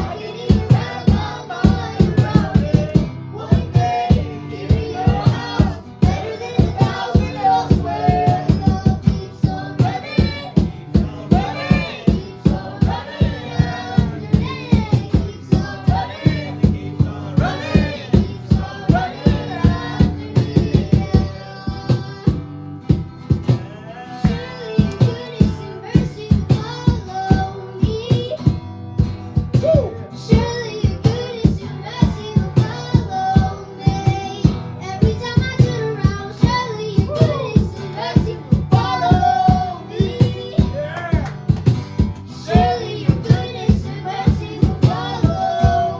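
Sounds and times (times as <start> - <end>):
worship band music: 0.0 - 28.4, 29.0 - 45.9
steady drum beat: 0.0 - 45.9.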